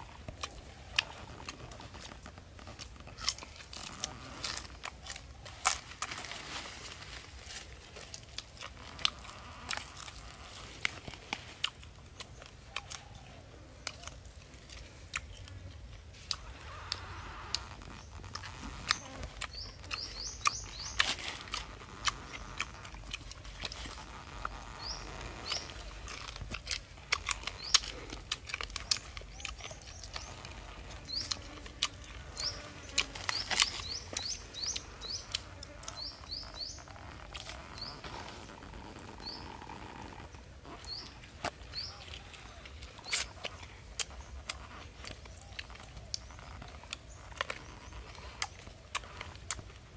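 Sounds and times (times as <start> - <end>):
small bird chirping: 0.1 - 49.9.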